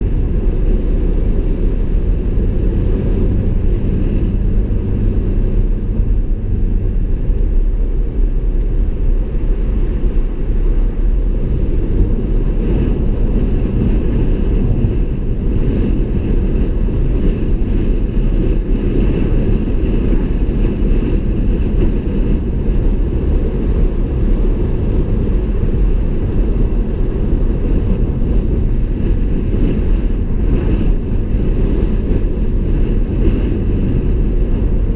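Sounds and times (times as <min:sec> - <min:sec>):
tyres and engine rumble: 0:00.0 - 0:34.9.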